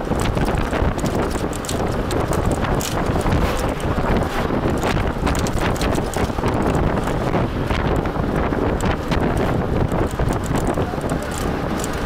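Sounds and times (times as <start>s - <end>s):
rattling clicks: 0.0s - 7.3s, 8.8s - 12.0s
wind and road noise: 0.0s - 12.0s.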